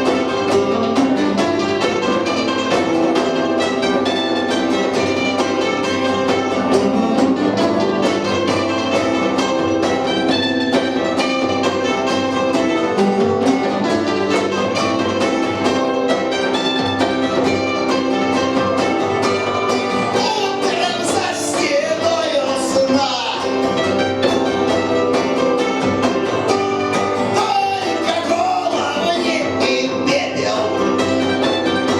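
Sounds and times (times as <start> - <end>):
live punk band playing: 0.0 - 31.9.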